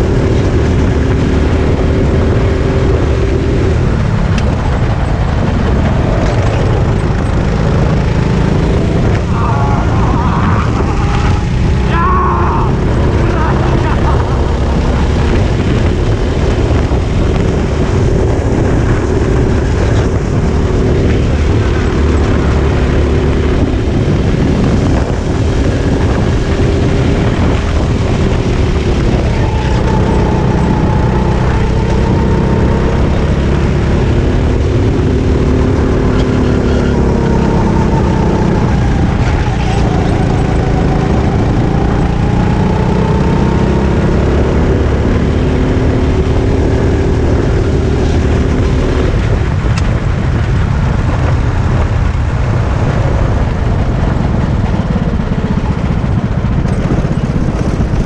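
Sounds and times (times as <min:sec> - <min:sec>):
kart engine at racing speed: 0:00.0 - 0:58.0.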